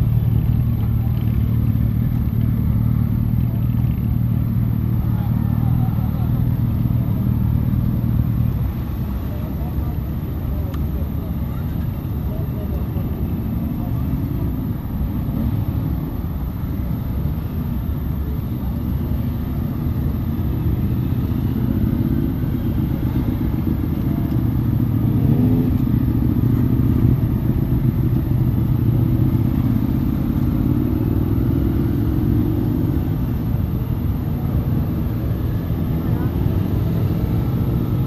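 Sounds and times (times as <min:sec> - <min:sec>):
motorcycle engines rumbling: 0:00.0 - 0:38.0.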